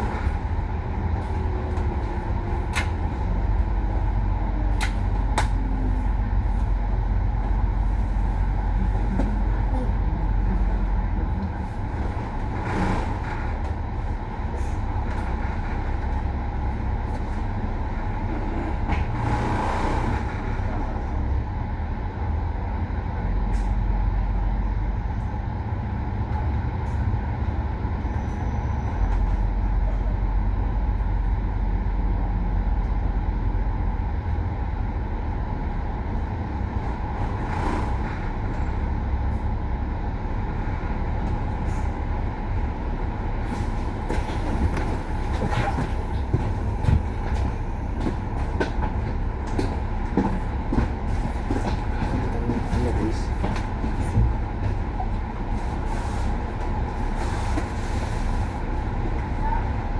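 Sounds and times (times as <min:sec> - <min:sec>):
bus engine and road drone: 0:00.0 - 0:59.9.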